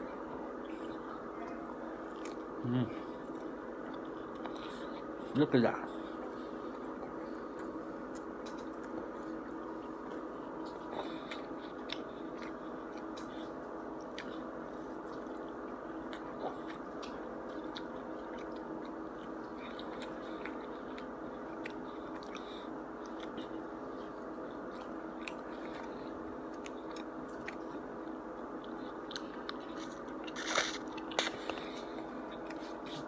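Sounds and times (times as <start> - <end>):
background hum: 0.0 - 33.0
person chewing food: 0.0 - 33.0.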